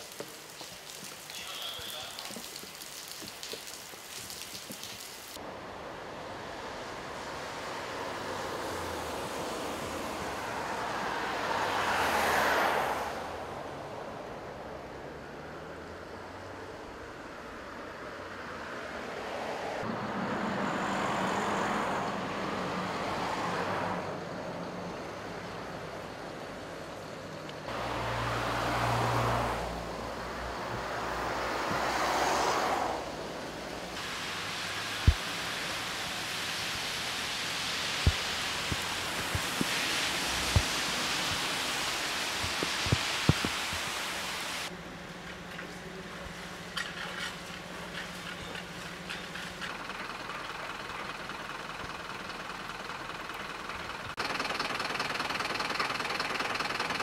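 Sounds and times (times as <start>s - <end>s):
cars passing on wet road: 0.0s - 57.0s.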